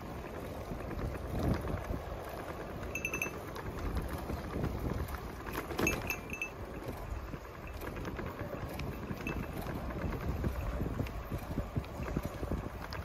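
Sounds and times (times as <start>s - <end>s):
bicycle rolling on pavement: 0.0s - 13.0s
wind buffeting microphone: 0.0s - 13.0s.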